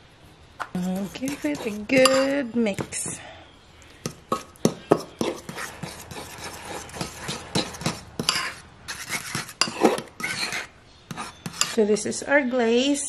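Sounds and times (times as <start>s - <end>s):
metal spoon scraping a bowl: 0.7s - 3.2s, 4.1s - 12.0s.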